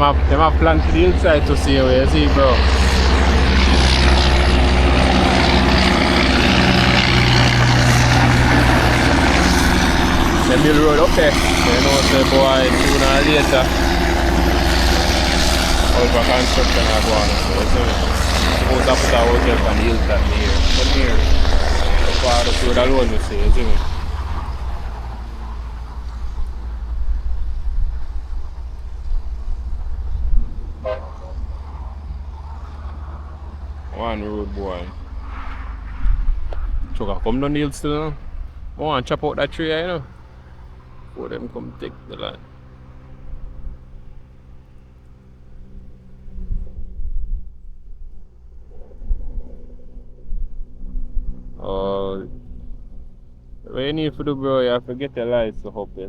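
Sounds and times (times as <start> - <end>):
diesel truck engine droning: 0.0 - 56.0.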